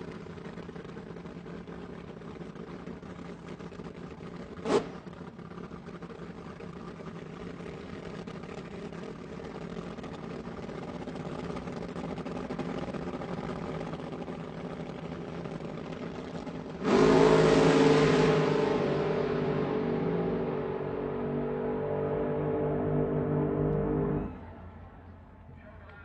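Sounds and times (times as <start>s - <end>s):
sports car engine running: 0.0s - 25.2s.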